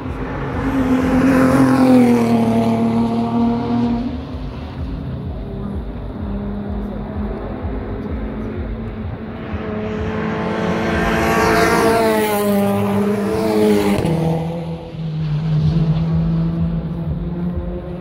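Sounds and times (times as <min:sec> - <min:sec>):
low engine drone: 0:00.0 - 0:18.0
race car passing by: 0:00.0 - 0:18.0.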